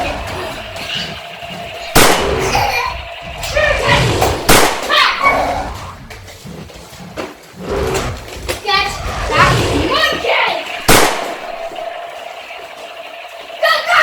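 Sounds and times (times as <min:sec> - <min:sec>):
sharp bangs: 0:00.0 - 0:06.1, 0:07.7 - 0:14.0.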